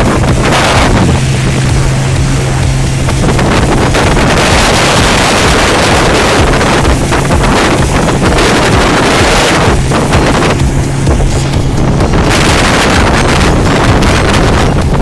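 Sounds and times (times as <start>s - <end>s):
low engine hum: 0.0s - 15.0s
water rushing past hull: 0.0s - 15.0s
wind buffeting microphone: 0.0s - 15.0s.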